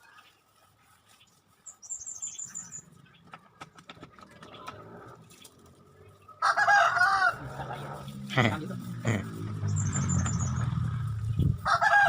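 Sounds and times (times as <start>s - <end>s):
small bird chirping: 0.0s - 6.4s, 7.7s - 11.7s.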